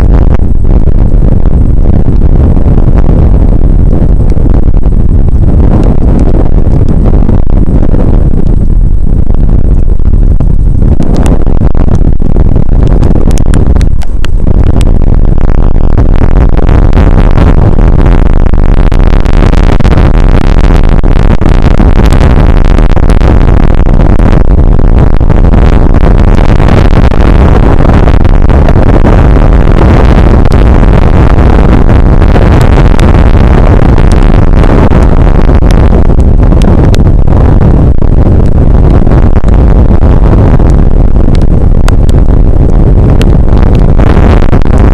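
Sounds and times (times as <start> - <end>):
rain on a microphone: 0.0 - 44.9.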